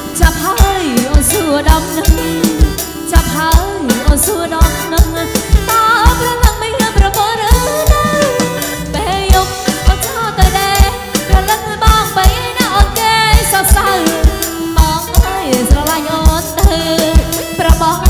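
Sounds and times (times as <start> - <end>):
bending melody line: 0.0 - 18.0
live dance band playing: 0.0 - 18.0
steady kick drum beat: 0.0 - 18.0.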